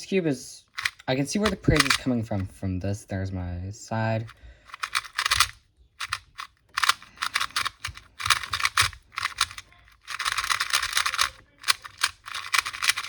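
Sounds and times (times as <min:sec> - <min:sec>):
plastic puzzle cube clicking: 0:00.7 - 0:02.6, 0:04.2 - 0:13.0.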